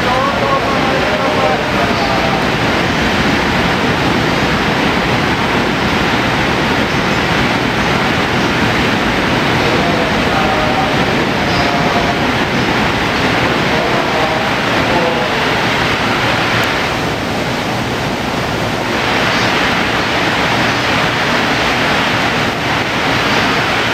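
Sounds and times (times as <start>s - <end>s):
electric locomotive equipment running: 0.0s - 23.9s
faint voices: 0.0s - 23.9s.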